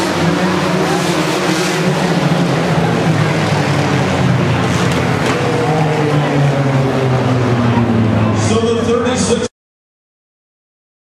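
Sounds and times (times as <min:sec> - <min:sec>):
race car engines: 0:00.0 - 0:09.5.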